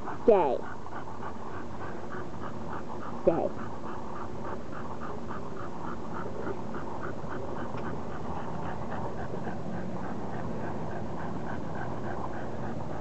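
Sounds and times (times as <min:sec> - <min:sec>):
dog panting rapidly: 0:00.0 - 0:13.0
steady low hum: 0:00.0 - 0:13.0.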